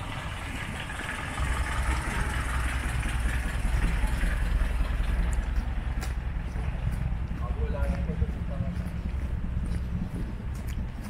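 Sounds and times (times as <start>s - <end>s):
street hum: 0.0s - 11.0s
truck engine idling: 0.0s - 11.0s.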